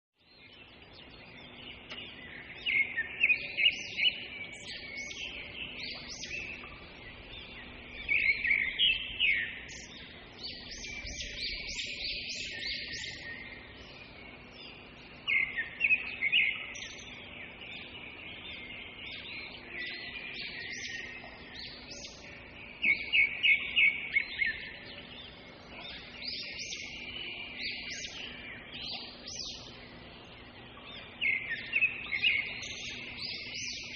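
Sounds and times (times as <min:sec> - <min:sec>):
loud bird song repeated notes: 0:00.2 - 0:33.9
soft bird chirps: 0:00.2 - 0:33.9.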